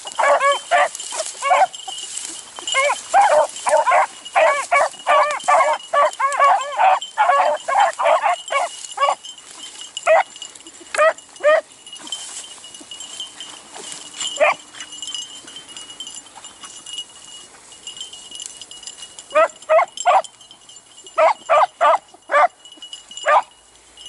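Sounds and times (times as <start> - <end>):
beagles baying: 0.0 - 12.2, 13.1 - 16.8, 19.3 - 20.4, 21.0 - 23.6.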